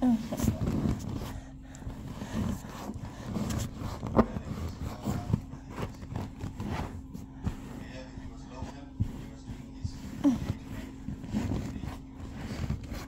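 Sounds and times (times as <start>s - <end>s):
fabric rustling and scraping: 0.0s - 13.0s.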